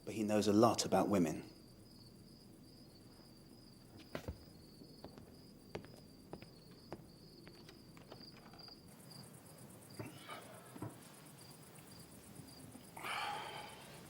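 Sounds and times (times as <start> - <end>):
crickets chirping: 0.0 - 14.0
high insect trill: 0.0 - 14.0.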